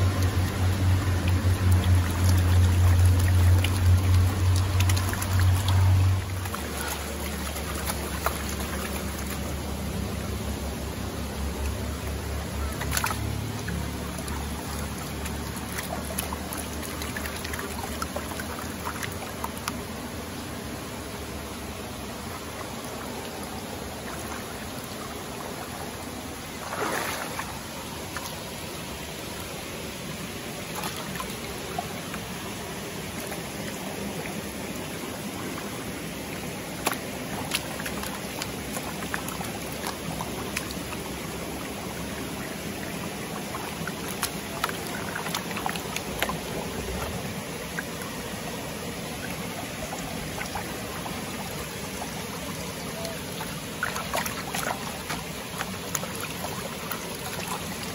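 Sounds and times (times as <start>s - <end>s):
water splash: 0.0s - 10.6s, 11.6s - 19.9s, 25.6s - 28.5s, 30.6s - 57.9s
river trickling: 0.0s - 57.9s.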